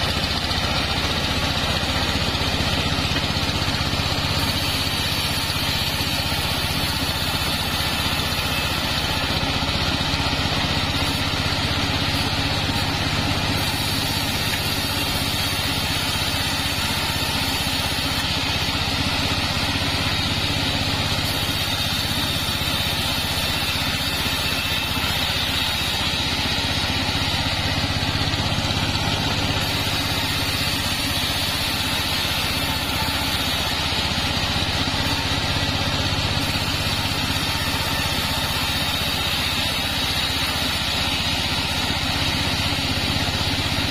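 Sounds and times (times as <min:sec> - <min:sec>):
bandsaw blade cutting wood: 0:00.0 - 0:43.9
engine drone: 0:00.0 - 0:43.9.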